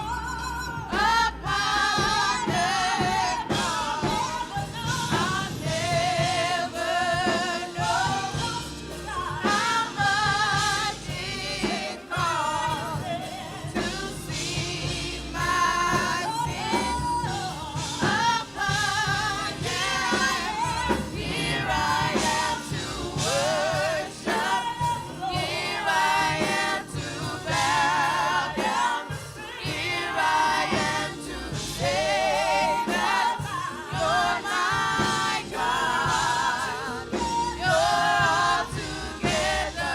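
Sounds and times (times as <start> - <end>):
band accompaniment: 0.0 - 39.9
voices singing with vibrato: 0.0 - 39.9.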